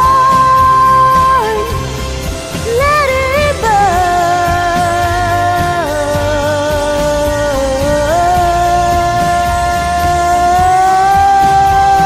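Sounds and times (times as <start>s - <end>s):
pop ballad backing music: 0.0s - 12.0s.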